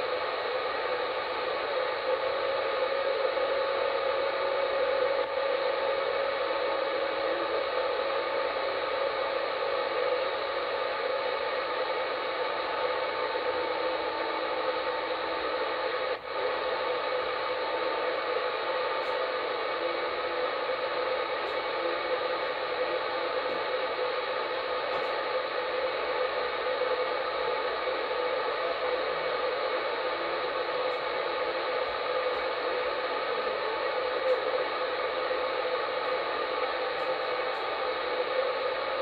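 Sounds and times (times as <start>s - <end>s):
radio static hiss: 0.0s - 39.0s.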